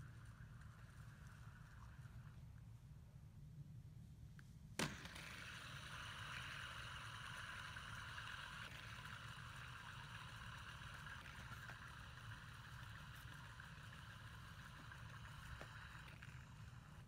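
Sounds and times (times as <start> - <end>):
fidget spinner whirring: 0.0 - 2.7, 4.8 - 17.0.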